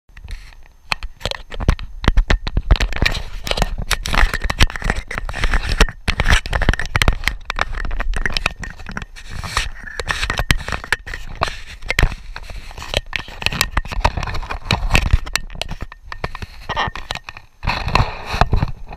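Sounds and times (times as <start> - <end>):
gear rubbing on camera housing: 0.2 - 18.9.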